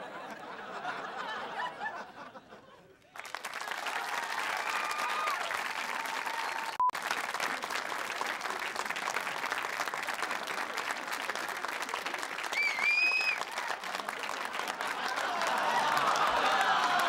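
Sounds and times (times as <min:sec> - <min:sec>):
audience applauding: 0:03.1 - 0:17.0.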